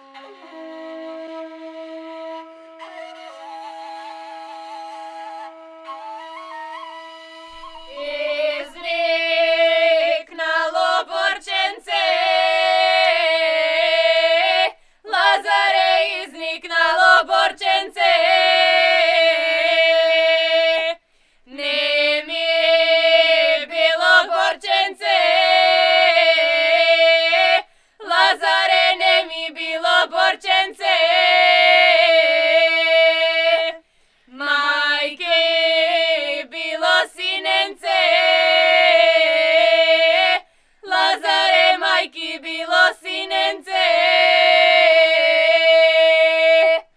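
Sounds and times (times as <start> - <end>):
women singing unaccompanied: 7.7 - 46.9.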